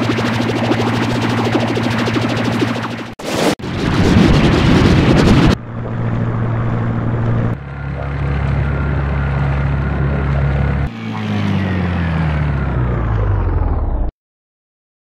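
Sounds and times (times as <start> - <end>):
motorboat engine drone: 0.0 - 14.1.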